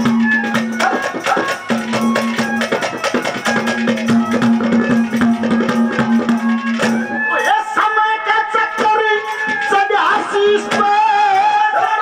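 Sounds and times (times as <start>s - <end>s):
higher melody line: 0.0s - 9.9s
drums playing fast rhythm: 0.0s - 12.0s.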